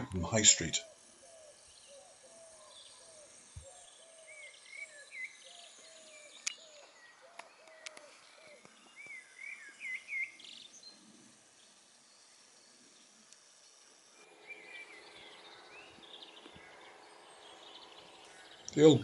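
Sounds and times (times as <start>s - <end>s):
low repeated bird call: 0.0s - 19.0s.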